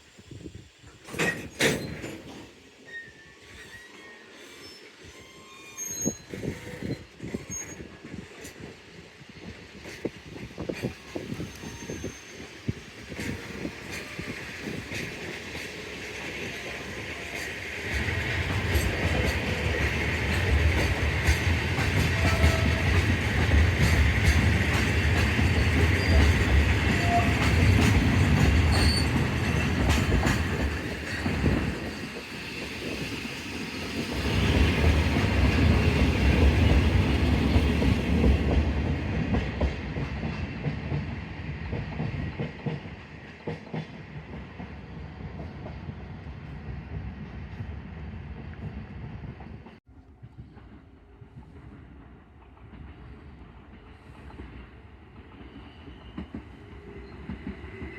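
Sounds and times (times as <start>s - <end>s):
train wheels clattering on rails: 0.8s - 2.8s, 6.0s - 57.9s.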